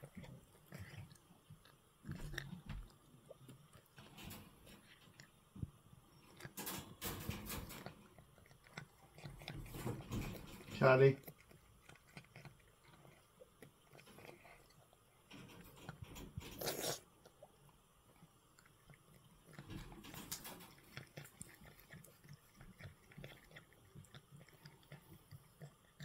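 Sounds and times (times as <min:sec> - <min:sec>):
cat chewing: 0:00.0 - 0:26.0.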